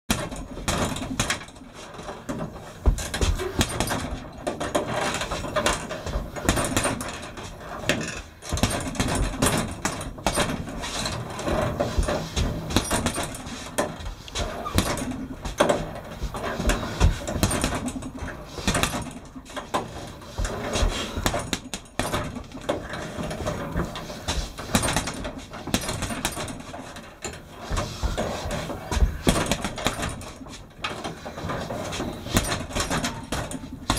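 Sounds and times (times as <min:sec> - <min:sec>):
gloves punching heavy bag: 0:00.1 - 0:33.9.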